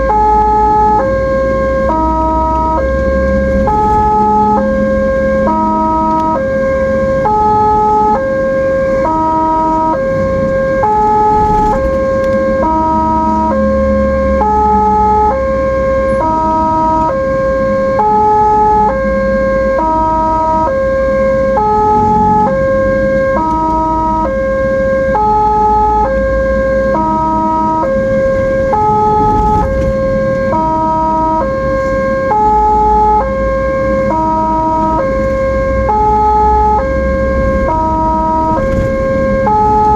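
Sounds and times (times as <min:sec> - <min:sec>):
ambulance siren wailing: 0:00.0 - 0:39.9
engine and road rumble: 0:00.0 - 0:39.9.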